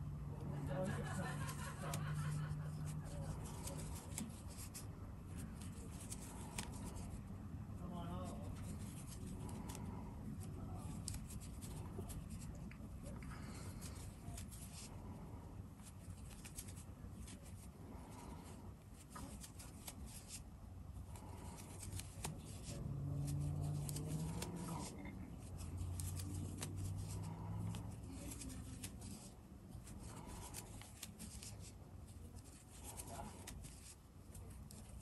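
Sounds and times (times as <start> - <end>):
crochet hook and yarn rustling: 0.3 - 35.0.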